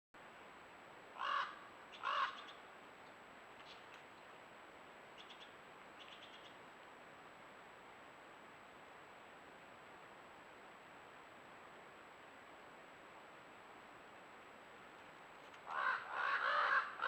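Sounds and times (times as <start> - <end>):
low steady hiss: 0.2 - 17.0.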